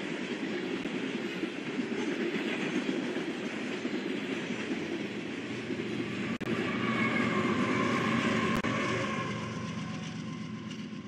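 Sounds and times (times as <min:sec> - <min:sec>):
steel wheels rumbling on track: 0:00.0 - 0:11.0.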